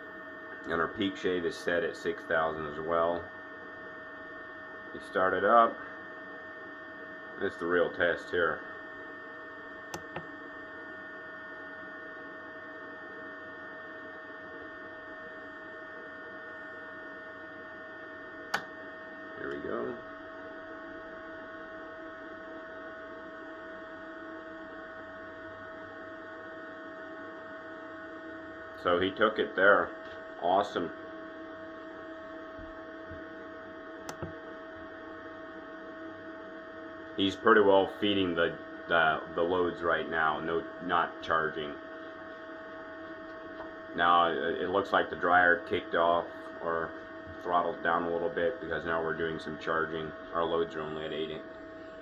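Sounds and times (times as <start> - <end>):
electrical hum with whining tones: 0.0 - 52.0.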